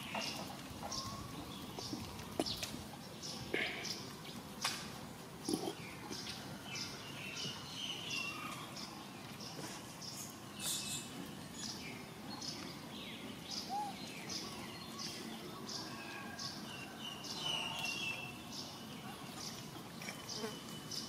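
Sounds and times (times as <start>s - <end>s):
birds chirping: 0.0s - 21.0s
faint background noise: 0.0s - 21.0s.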